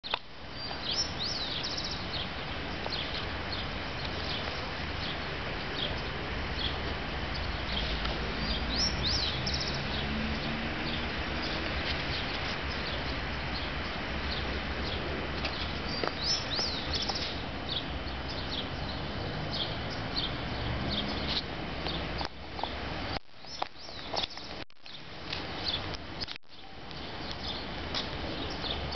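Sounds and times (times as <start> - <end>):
birds chirping and singing: 0.6 - 22.8, 23.5 - 25.0, 26.5 - 28.9.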